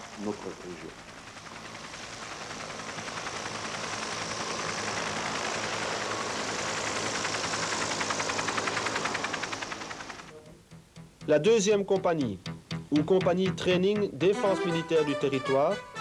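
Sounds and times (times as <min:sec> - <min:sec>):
helicopter turbine whine: 0:00.0 - 0:12.0, 0:13.1 - 0:16.0
rotor blades beating: 0:00.0 - 0:15.3.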